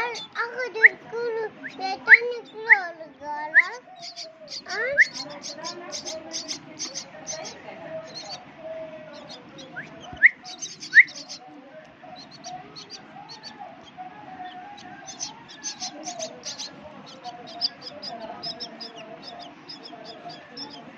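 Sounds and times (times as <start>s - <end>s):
chicks chirping: 0.0s - 2.9s, 3.5s - 20.9s.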